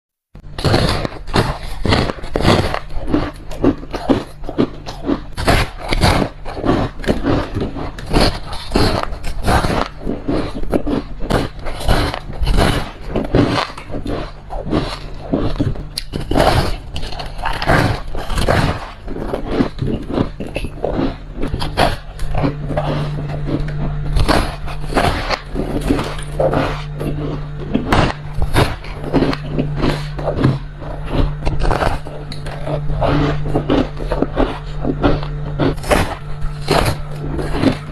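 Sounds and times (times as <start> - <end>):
steady low hum: 0.4 - 37.9
ice being crunched: 0.5 - 37.9.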